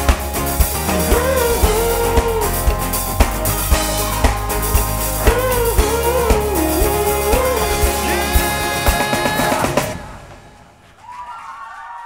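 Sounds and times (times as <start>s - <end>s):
live rock band playing: 0.0s - 10.3s.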